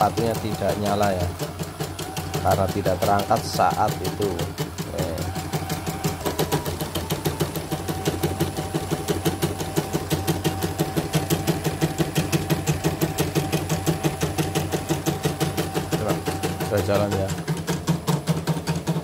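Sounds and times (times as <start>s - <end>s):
motor whine: 0.0s - 18.2s
embroidery machine stitching: 0.0s - 19.0s.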